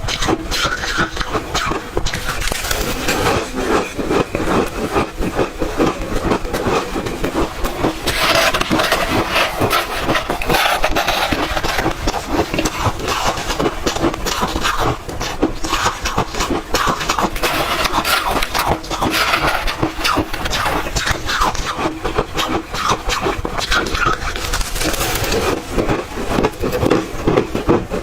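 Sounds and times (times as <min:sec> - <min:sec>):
ice being chewed crunching: 0:00.0 - 0:28.0.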